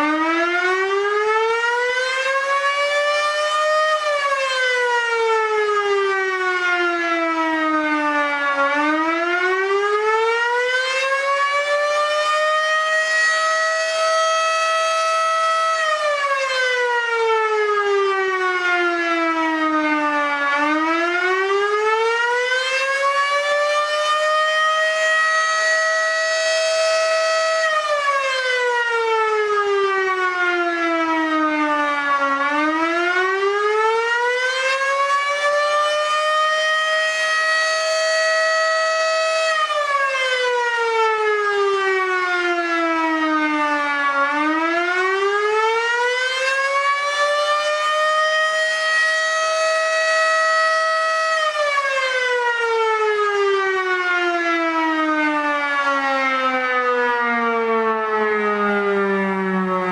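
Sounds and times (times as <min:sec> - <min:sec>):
fire siren wailing: 0:00.0 - 0:59.9.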